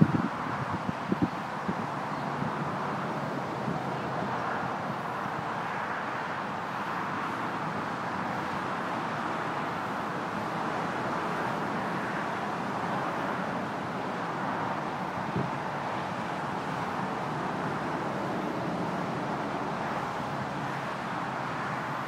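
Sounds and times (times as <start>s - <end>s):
diesel crane engines droning: 0.0s - 22.0s.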